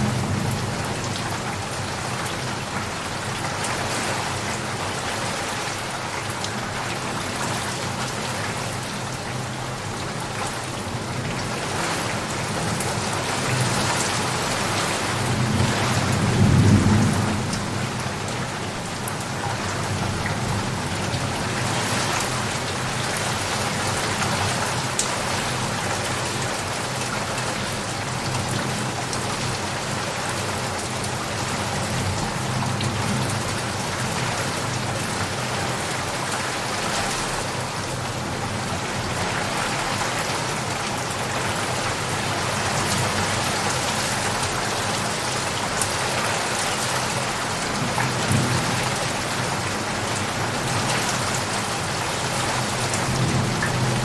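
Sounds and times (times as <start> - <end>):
dense rain falling: 0.0 - 54.0.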